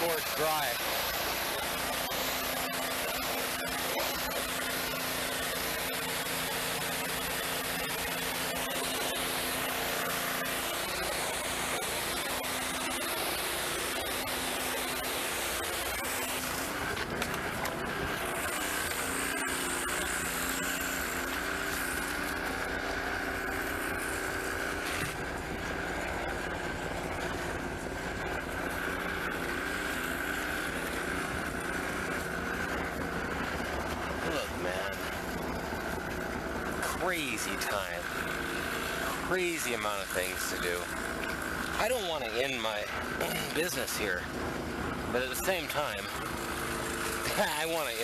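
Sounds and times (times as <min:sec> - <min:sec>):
pressure washer engine hum: 0:00.0 - 0:48.0
steady whine: 0:00.0 - 0:48.0.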